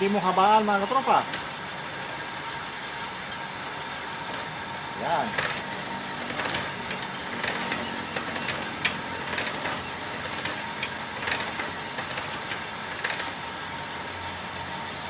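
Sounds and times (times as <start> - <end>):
honing machine running: 0.0 - 15.0.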